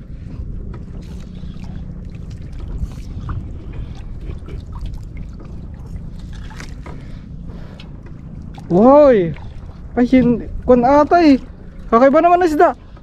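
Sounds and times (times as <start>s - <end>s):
steady low rumble: 0.0s - 13.0s
water lapping against boat hull: 0.0s - 13.0s.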